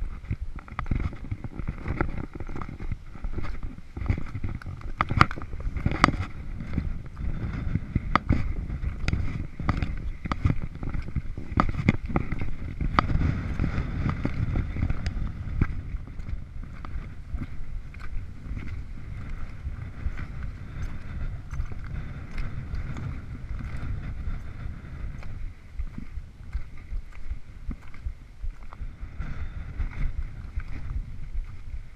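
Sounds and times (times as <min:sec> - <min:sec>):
wind buffeting microphone: 0:00.0 - 0:31.9
knocks and scrapes on rock: 0:00.1 - 0:28.1.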